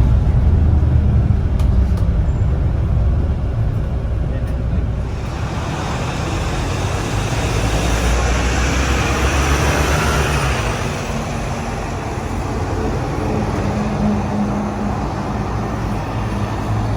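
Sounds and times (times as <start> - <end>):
bus engine and road rumble: 0.0 - 16.9.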